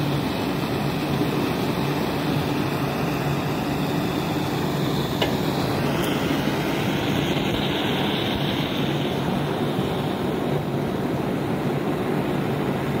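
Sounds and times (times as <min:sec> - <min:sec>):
blowtorch flame hissing: 0:00.0 - 0:13.0.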